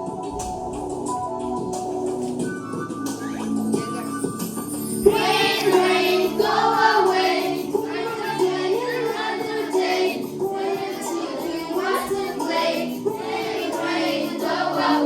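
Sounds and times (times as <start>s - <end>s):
instrumental backing: 0.0s - 14.1s
children singing: 0.0s - 15.0s.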